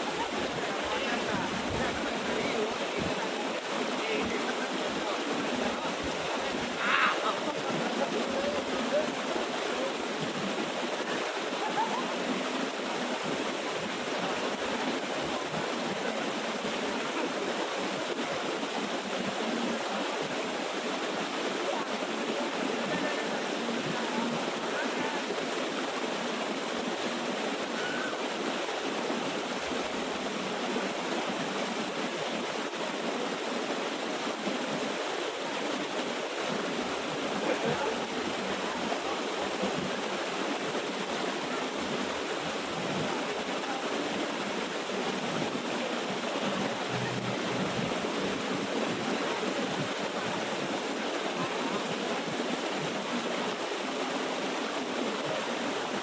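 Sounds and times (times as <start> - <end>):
small waterfall rushing: 0.0 - 56.0.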